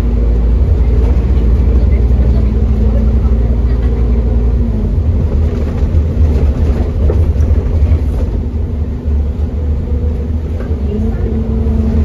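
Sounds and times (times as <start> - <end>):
bus engine low rumble: 0.0 - 12.0
road noise: 0.0 - 12.0.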